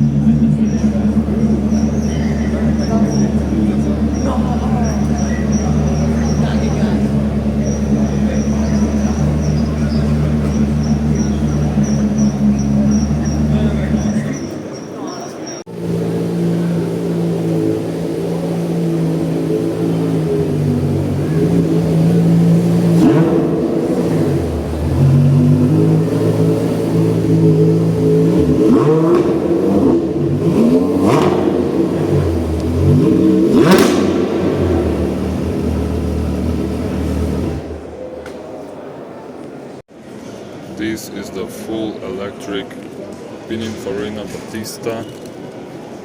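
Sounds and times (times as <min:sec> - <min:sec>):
car engine idling and revving: 0:00.0 - 0:14.8, 0:15.6 - 0:38.7.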